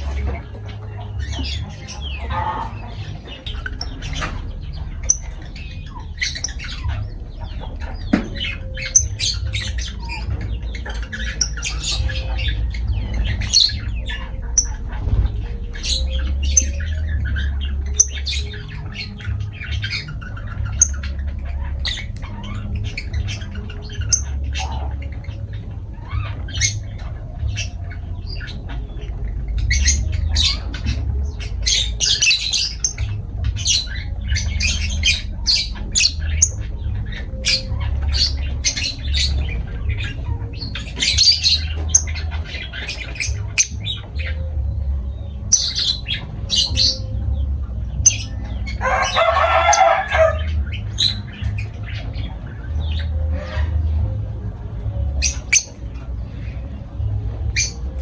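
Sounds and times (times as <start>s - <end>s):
lovebirds chirping and squawking: 0.0s - 58.0s
low rumble: 0.0s - 58.0s.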